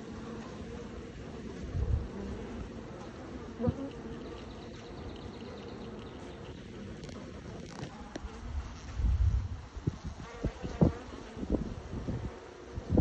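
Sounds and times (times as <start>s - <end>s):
bee swarm buzzing: 0.0s - 13.0s.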